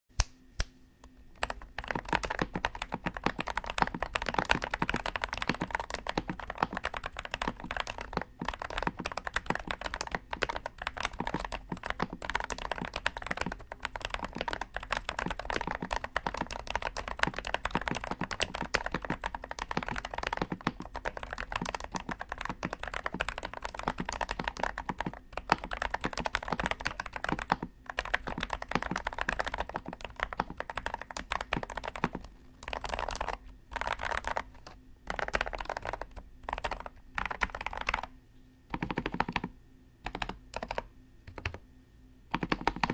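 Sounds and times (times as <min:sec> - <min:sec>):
fast typing on mechanical keyboard: 0:01.4 - 0:38.1, 0:38.7 - 0:41.6, 0:42.3 - 0:42.9.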